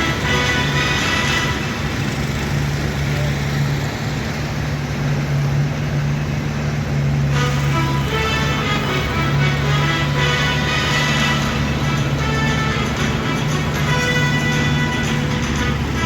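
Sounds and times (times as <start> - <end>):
low engine hum: 0.0 - 16.0
rush of passing vehicles: 0.0 - 16.0.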